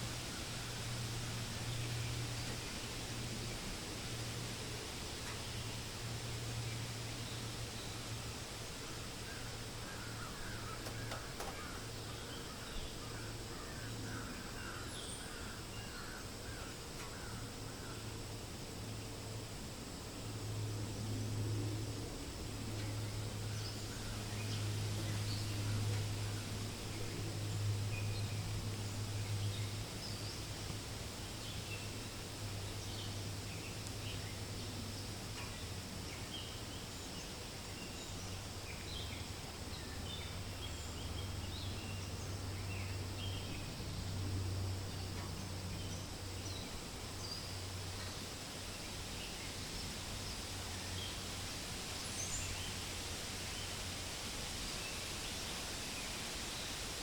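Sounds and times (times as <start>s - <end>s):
wind through leaves: 0.0s - 57.0s.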